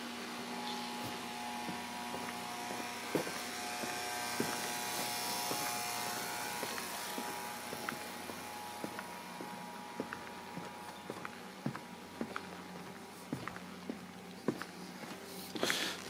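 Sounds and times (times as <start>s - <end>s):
motor-like hum: 0.0s - 15.6s.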